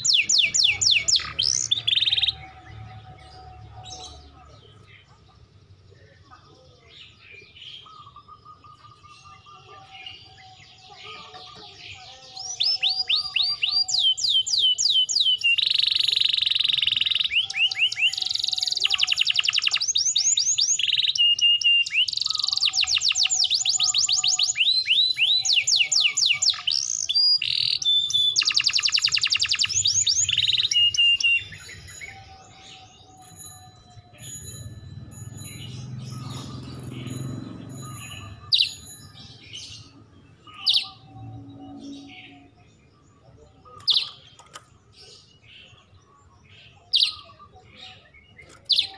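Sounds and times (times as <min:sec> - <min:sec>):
canary singing rapid trills: 0:00.0 - 0:06.3, 0:07.1 - 0:48.9.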